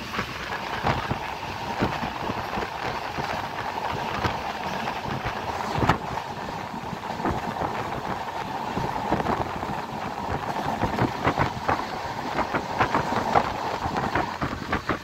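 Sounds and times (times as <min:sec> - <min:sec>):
train rumble and wind rush: 0:00.0 - 0:15.0
wheels rattling and clanking: 0:00.0 - 0:15.0.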